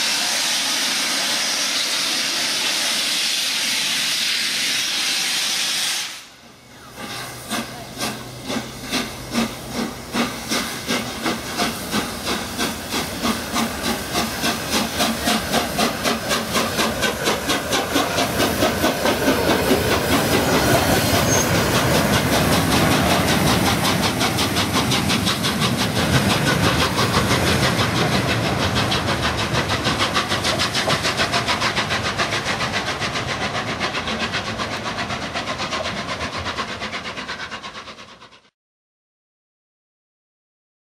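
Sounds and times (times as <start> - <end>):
steam hiss: 0.0 - 38.5
steam locomotive exhaust beats: 0.0 - 38.5.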